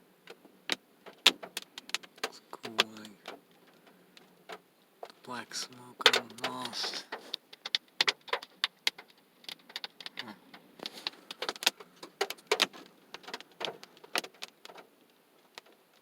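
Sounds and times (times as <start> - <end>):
raindrops tapping on car roof: 0.3 - 16.0.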